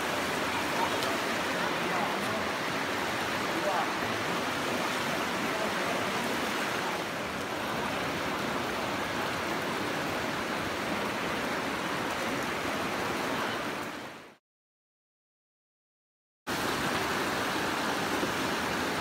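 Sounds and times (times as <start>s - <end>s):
water flowing over rocks: 0.0s - 14.4s, 16.5s - 19.0s.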